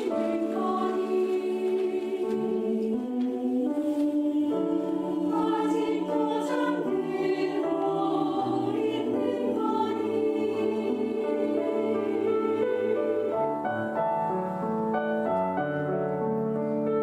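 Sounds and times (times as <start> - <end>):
mixed choir singing: 0.0 - 13.9.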